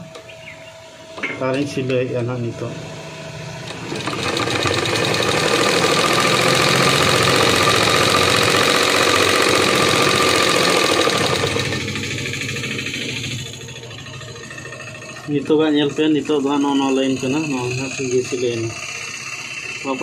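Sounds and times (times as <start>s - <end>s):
electric sewing machine running: 2.8s - 20.0s.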